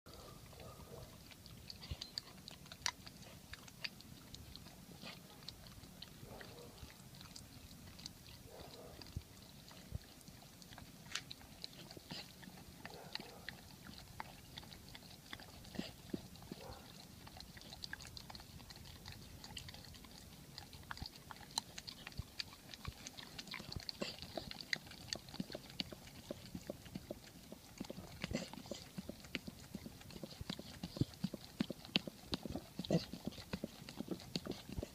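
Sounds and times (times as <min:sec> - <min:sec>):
dog licking and smacking: 0:00.1 - 0:34.9.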